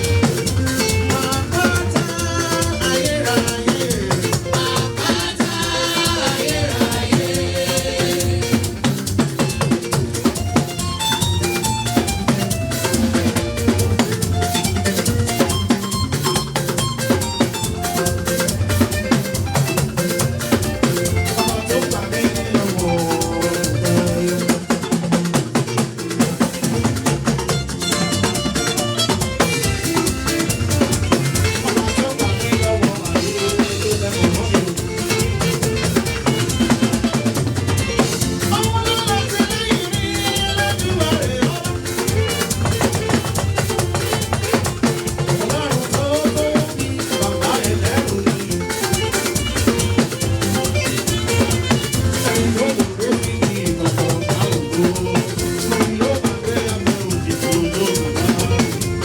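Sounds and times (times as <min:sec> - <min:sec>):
drum kit beat: 0:00.0 - 0:59.0
live band music: 0:00.0 - 0:59.0.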